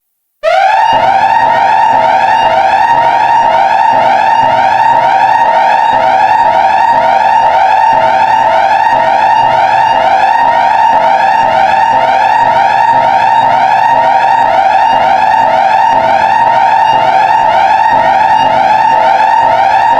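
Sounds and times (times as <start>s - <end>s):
alarm tone with rapid warble: 0.4s - 19.9s.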